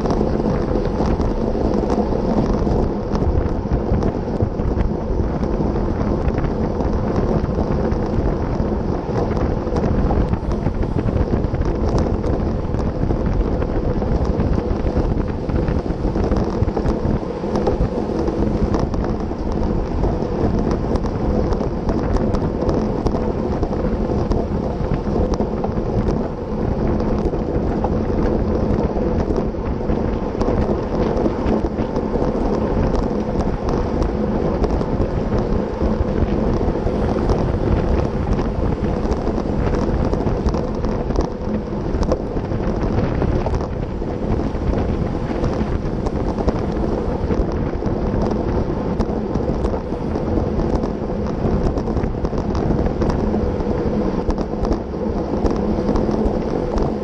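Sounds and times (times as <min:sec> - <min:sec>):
bike tyres rolling on asphalt: 0:00.0 - 0:57.0
wind buffeting microphone: 0:00.0 - 0:57.0.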